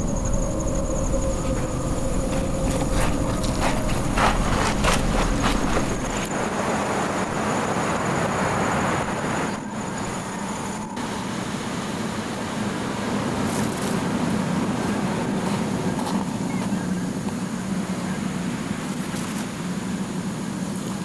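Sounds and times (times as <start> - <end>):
waves breaking on beach: 2.9 - 21.0.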